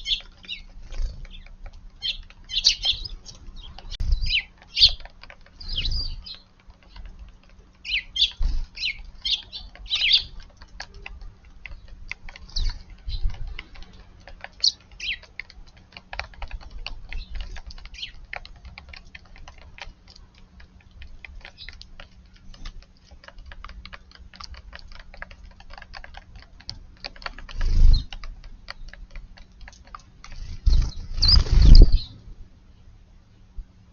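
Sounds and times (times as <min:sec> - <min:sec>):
patter of small ticks: 0:00.0 - 0:32.3
sparrows chirping: 0:00.0 - 0:32.9.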